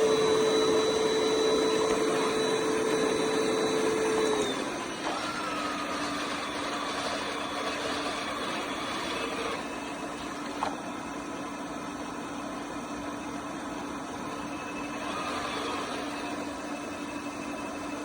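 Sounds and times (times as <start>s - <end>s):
robot vacuum motor hum: 0.0s - 11.6s, 13.7s - 18.0s.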